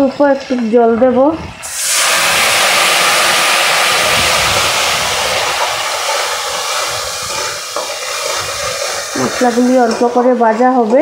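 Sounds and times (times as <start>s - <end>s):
steam hissing and oil sizzling: 0.0s - 11.0s.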